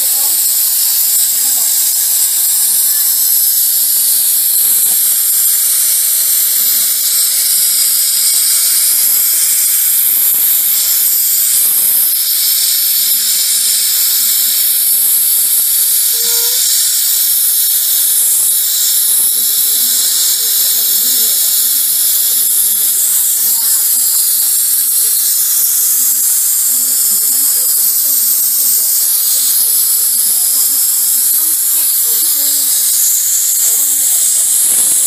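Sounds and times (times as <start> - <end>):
steam cleaner hissing: 0.0 - 35.0.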